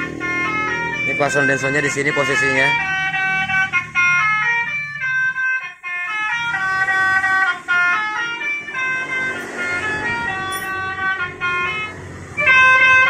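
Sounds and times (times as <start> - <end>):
horn playing a tune: 0.0 - 13.0.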